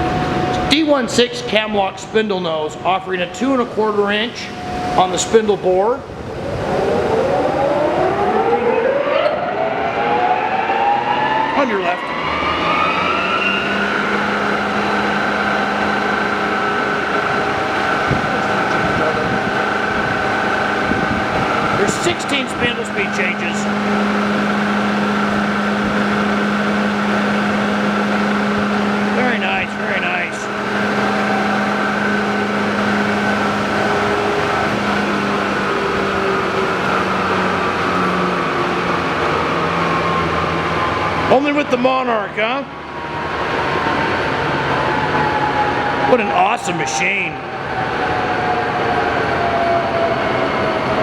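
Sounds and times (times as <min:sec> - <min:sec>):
lathe running with gear whine: 0:00.0 - 0:51.0.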